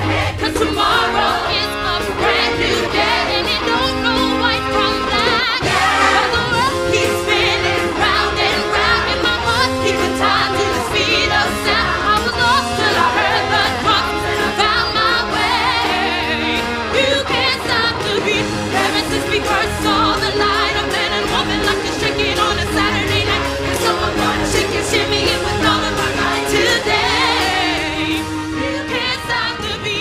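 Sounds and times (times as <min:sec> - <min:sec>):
band accompaniment: 0:00.0 - 0:30.0
ensemble chorus singing: 0:00.0 - 0:30.0
lead voice singing: 0:00.0 - 0:30.0.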